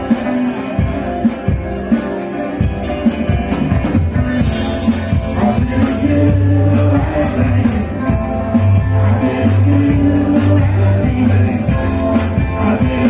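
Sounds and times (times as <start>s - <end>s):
live rock band playing: 0.0s - 13.0s
held bass notes: 0.8s - 13.0s.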